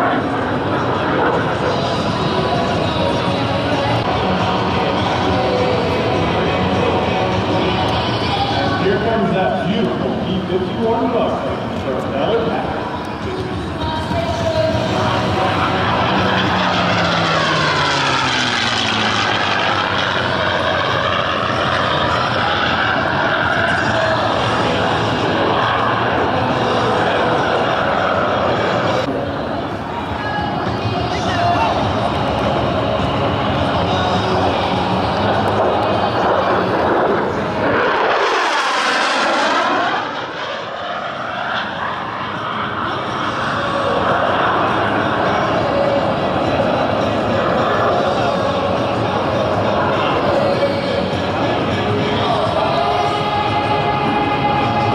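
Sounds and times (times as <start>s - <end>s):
propeller plane engine flyby: 0.0s - 54.9s.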